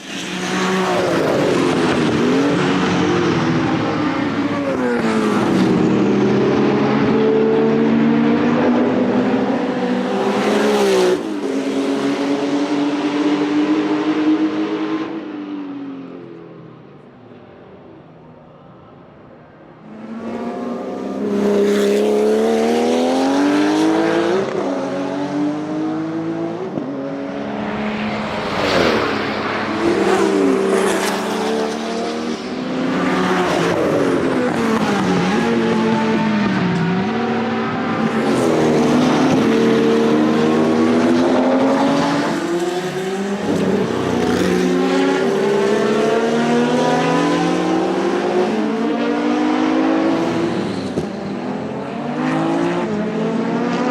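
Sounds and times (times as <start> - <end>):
racing engine at full throttle: 0.0 - 16.5, 19.8 - 53.9.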